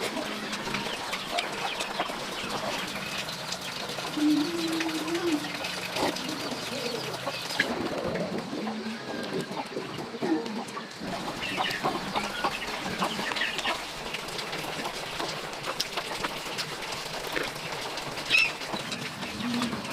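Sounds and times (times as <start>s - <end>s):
chickens and birds calling: 0.0s - 19.9s.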